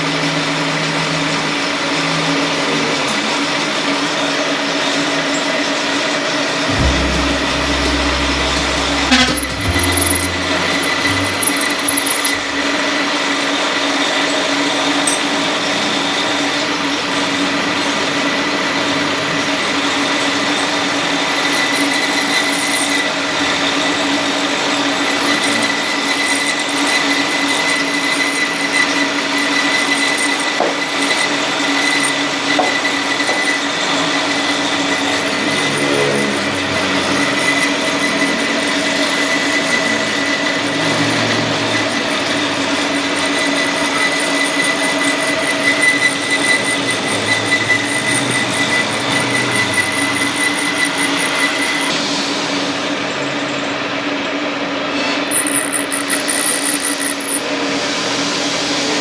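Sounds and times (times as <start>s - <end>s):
shop machine running: 0.0s - 59.0s.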